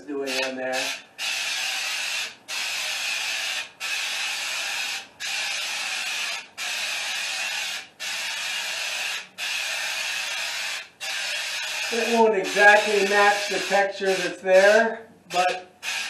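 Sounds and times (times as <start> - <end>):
aerosol can spraying: 0.3 - 14.7.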